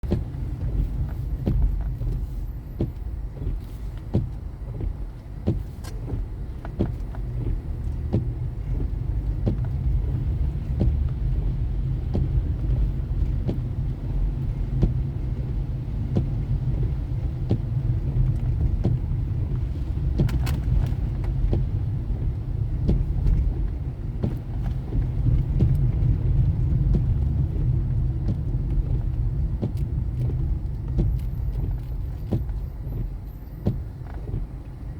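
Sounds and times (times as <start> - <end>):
car knocks and rattles: 0.0 - 34.9
engine and road rumble: 0.0 - 34.9.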